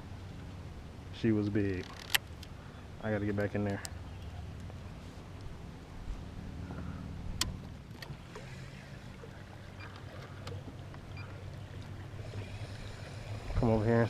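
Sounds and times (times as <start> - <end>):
kayak paddling low rumble: 0.0 - 14.0.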